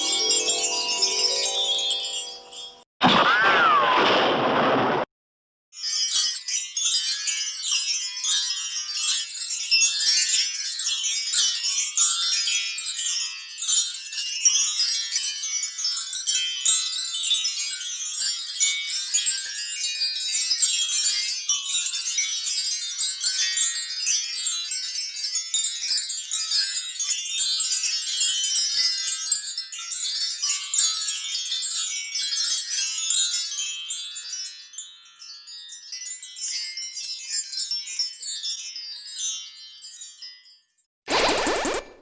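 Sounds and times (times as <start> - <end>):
shower of tinkling chimes: 0.0 - 2.8, 5.8 - 42.0.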